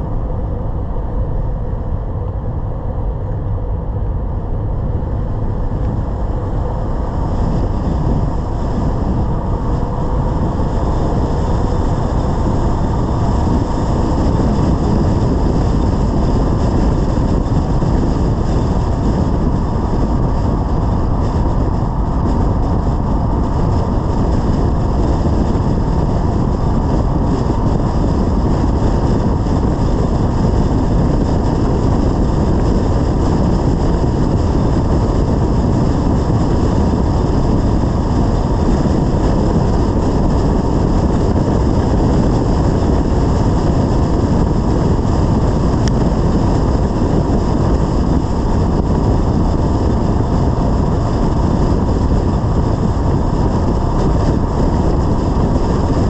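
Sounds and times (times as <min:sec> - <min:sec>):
car driving road noise: 0:00.0 - 0:56.0.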